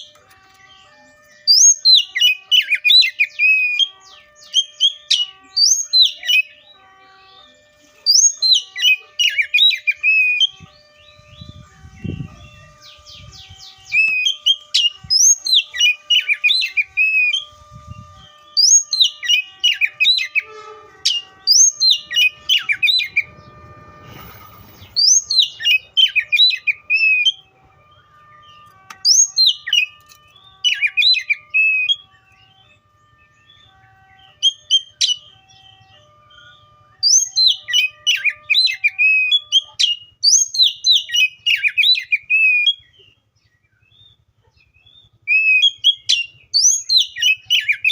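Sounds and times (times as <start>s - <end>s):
bird singing whistled phrases: 0.5s - 7.5s, 8.1s - 43.2s, 44.8s - 47.9s.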